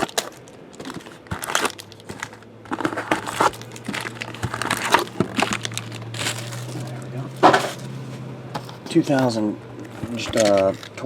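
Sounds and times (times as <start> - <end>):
plastic wrapping crinkling: 0.0 - 8.0, 9.2 - 11.0.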